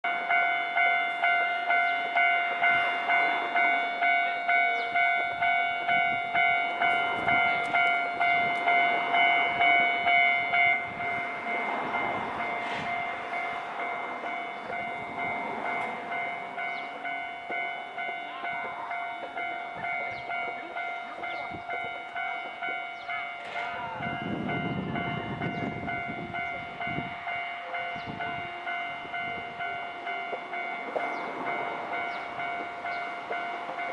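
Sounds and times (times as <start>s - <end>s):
electric train rumbling past: 0.0s - 33.9s
level crossing warning bell: 0.0s - 33.9s.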